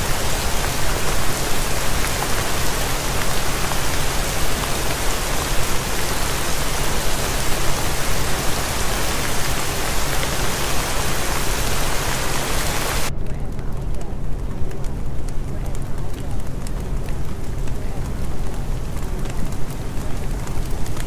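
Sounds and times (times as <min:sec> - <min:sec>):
steady rain-like hiss: 0:00.0 - 0:21.0.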